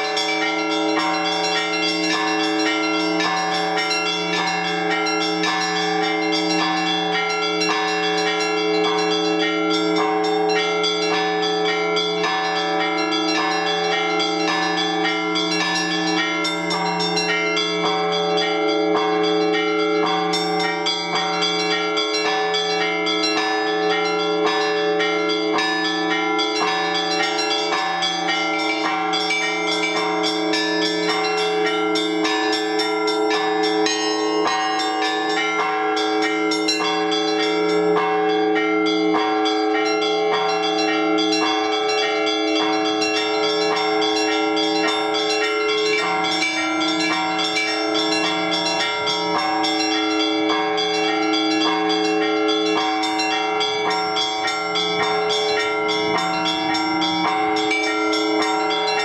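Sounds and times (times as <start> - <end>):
large bells humming: 0.0 - 59.0
small church bells ringing quickly: 0.0 - 59.0.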